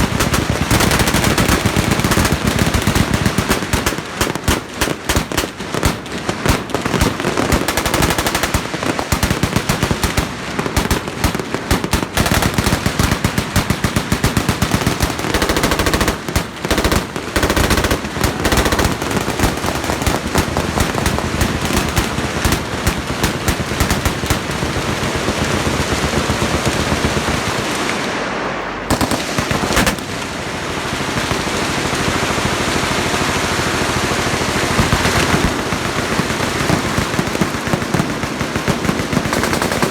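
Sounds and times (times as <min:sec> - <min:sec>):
machine guns firing: 0:00.0 - 0:39.9.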